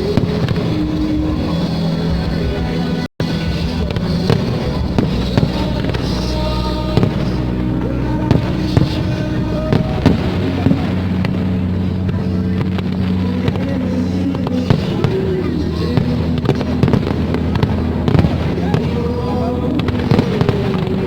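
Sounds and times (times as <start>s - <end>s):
fireworks bangs: 0.0s - 7.5s, 8.2s - 21.0s
sustained music tones: 0.0s - 21.0s.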